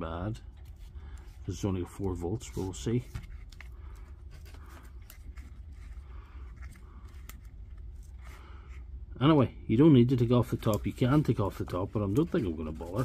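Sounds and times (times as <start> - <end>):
steady low hum: 0.0 - 13.0
hands rustling and clicking plastic: 0.5 - 8.3, 10.3 - 13.0.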